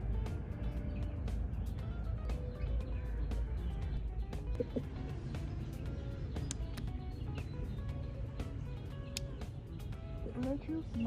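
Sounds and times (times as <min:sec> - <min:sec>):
bass-heavy music from small speaker: 0:00.0 - 0:11.0.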